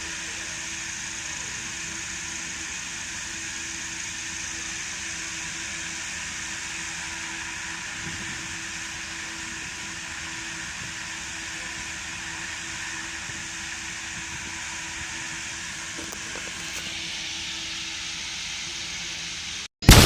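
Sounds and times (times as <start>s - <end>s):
engine idling with steady hum: 0.0s - 20.0s.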